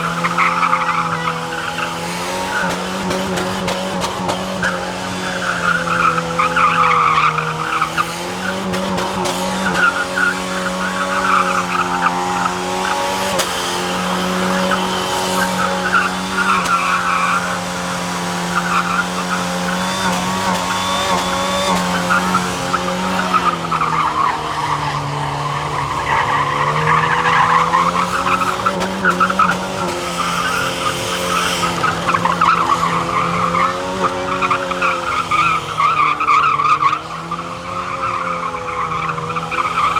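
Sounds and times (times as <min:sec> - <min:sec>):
tyres squealing: 0:00.0 - 0:03.8, 0:04.5 - 0:39.9
car engine revving high: 0:00.0 - 0:39.9.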